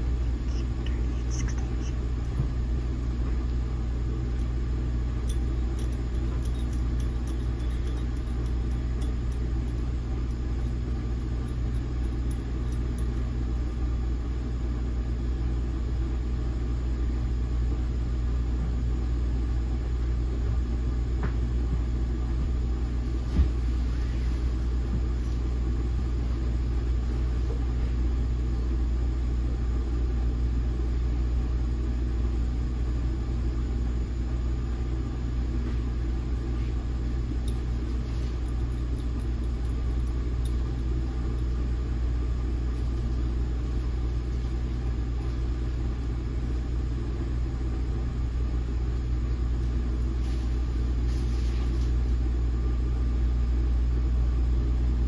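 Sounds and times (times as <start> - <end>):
low hum in rail coach: 0.0 - 55.0.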